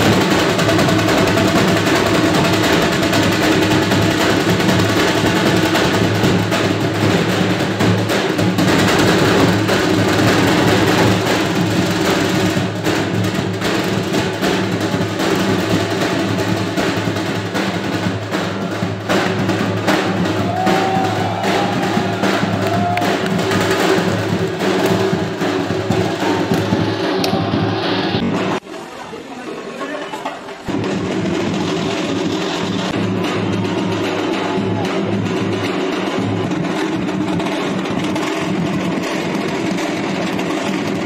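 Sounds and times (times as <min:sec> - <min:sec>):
dhol drums beaten fast: 0:00.0 - 0:28.6, 0:30.2 - 0:41.0.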